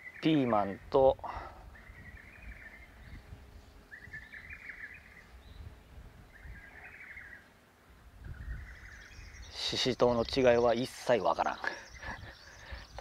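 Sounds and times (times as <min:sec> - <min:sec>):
bird singing short phrases: 0:00.0 - 0:07.6, 0:08.2 - 0:13.0.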